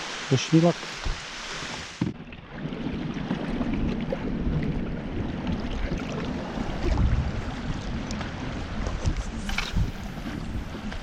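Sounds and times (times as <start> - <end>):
water around a kayak: 0.0 - 11.0
wind rumbling on microphone: 1.0 - 11.0.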